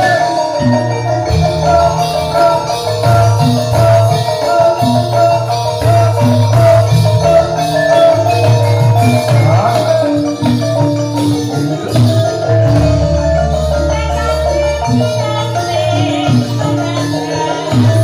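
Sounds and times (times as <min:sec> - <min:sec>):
metal-keyed mallet instruments melody: 0:00.0 - 0:18.0.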